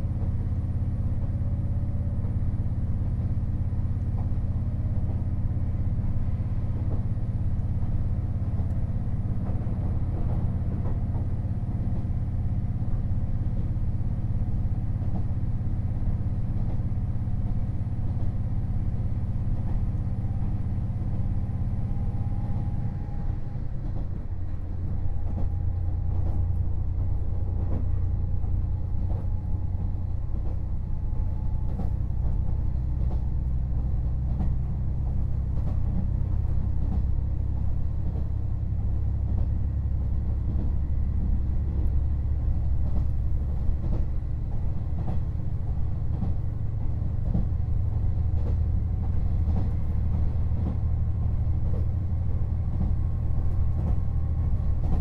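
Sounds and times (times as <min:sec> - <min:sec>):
track rumble: 0:00.0 - 0:55.0
light clicks from rails: 0:00.1 - 0:55.0.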